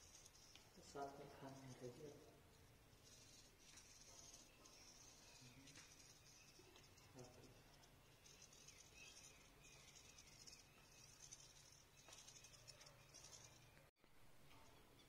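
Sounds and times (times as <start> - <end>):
faint high-pitched buzzes: 0.0 - 15.0.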